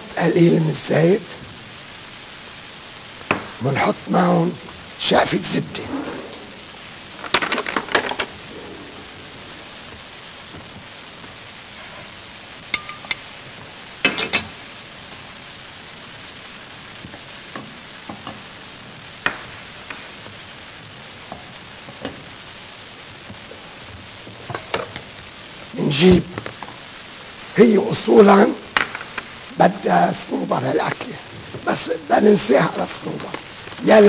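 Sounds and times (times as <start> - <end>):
oil sizzling in a pot: 0.0 - 34.0.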